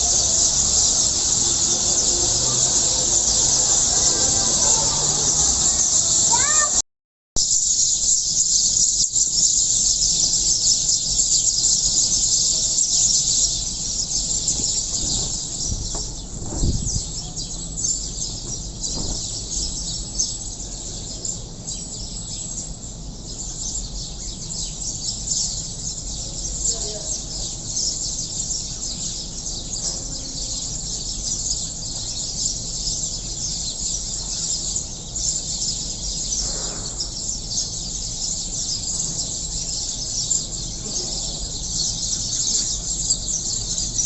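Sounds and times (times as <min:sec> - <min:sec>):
small birds chirping: 0:00.0 - 0:06.8, 0:07.4 - 0:44.0.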